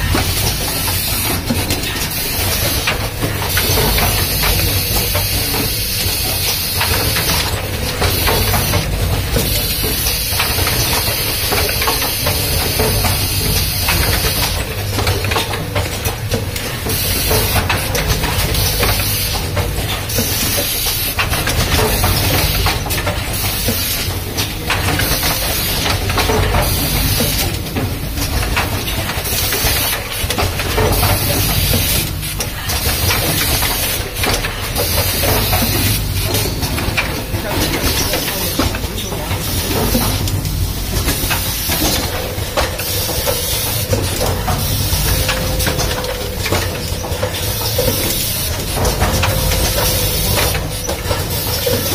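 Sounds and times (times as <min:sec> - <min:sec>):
machine humming: 0:00.0 - 0:51.9.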